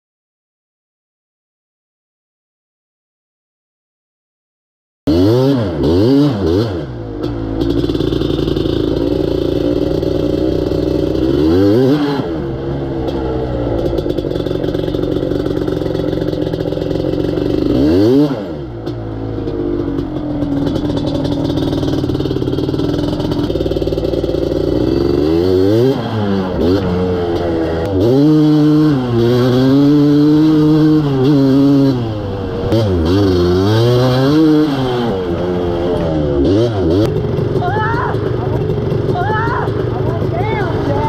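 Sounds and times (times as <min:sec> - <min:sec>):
two-stroke motorcycle engine revving: 0:05.1 - 0:41.0.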